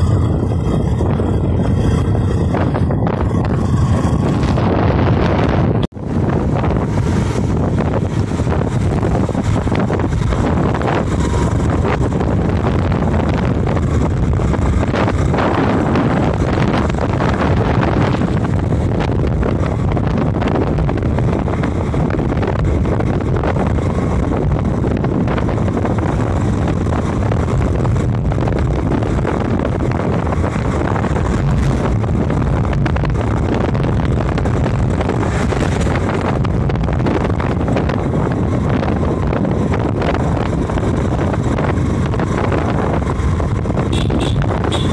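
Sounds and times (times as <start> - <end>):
road vehicle driving: 0.0 - 44.9
wind buffeting microphone: 0.0 - 44.9.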